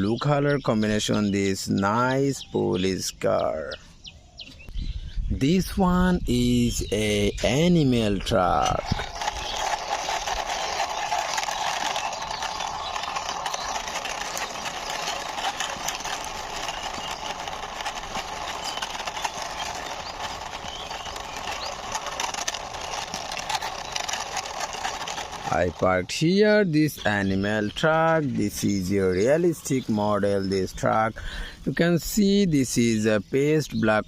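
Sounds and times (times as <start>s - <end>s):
toy truck wheels rattling: 5.6s - 34.0s.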